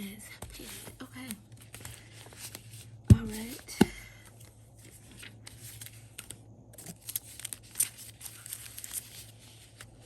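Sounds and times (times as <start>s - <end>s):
paper rustling and crinkling: 0.3s - 3.7s, 4.4s - 10.0s.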